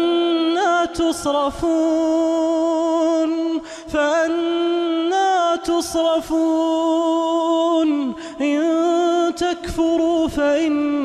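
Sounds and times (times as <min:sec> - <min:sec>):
man reciting in melodic chant: 0:00.0 - 0:11.0.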